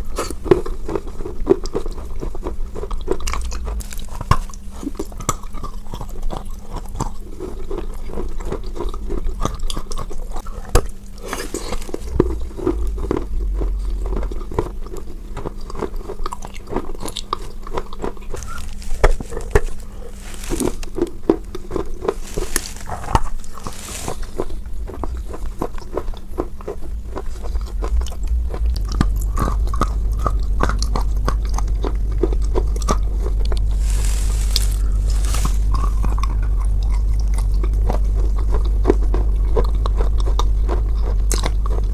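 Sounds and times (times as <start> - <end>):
close chewing and crunching: 0.0 - 41.9
steady low hum: 0.0 - 41.9.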